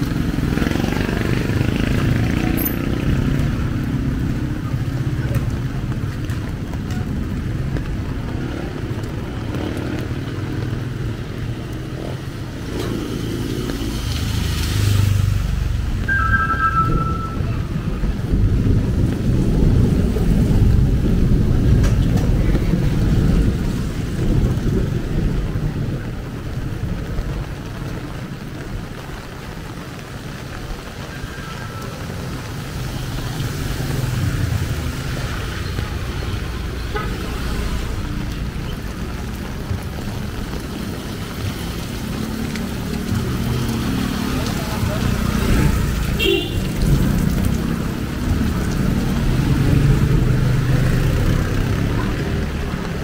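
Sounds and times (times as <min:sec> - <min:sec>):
rain and tyres on wet road: 0:00.0 - 0:53.0.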